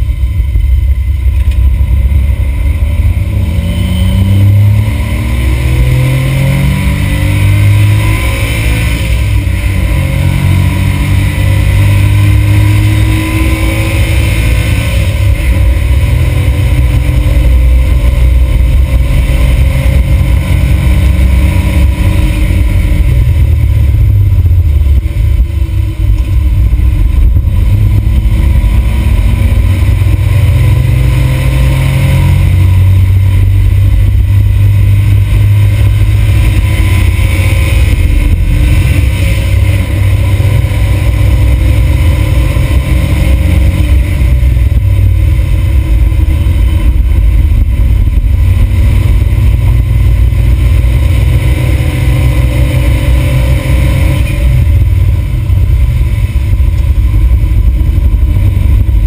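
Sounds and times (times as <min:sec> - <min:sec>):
car engine revving through gears: 0:00.0 - 0:59.0
road and wind noise: 0:00.0 - 0:59.0.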